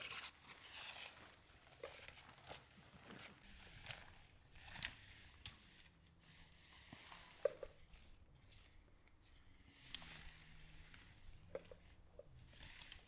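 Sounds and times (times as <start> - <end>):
soft rustling: 0.0 - 13.0.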